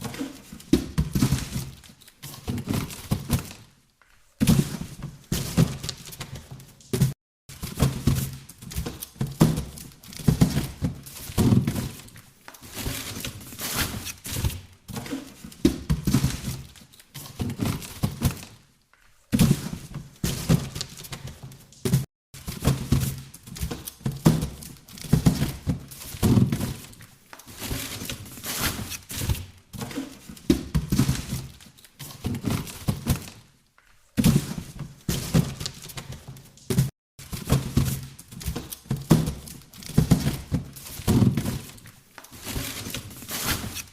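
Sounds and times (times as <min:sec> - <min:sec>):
boxes being handled: 0:00.0 - 0:43.9.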